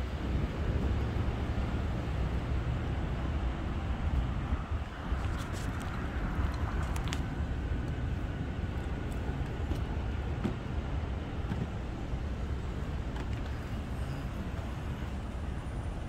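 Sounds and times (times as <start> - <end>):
airport and road traffic rumble: 0.0 - 16.0.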